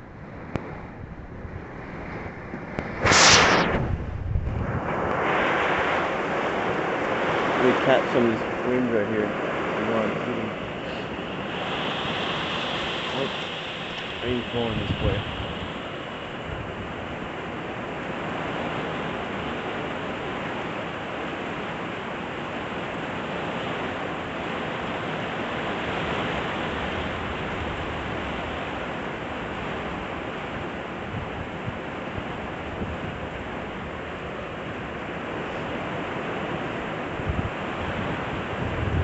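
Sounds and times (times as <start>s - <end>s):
storm wind blowing hard: 0.0s - 39.0s
wind-driven rain: 0.0s - 39.0s.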